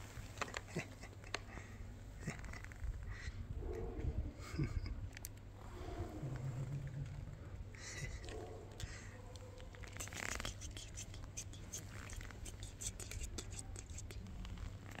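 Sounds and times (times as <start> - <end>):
low steady hum: 0.0 - 14.6.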